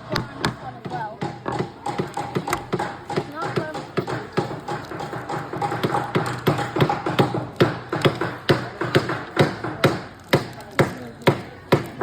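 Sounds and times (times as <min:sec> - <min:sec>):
small hammers tapping on wood: 0:00.1 - 0:12.0.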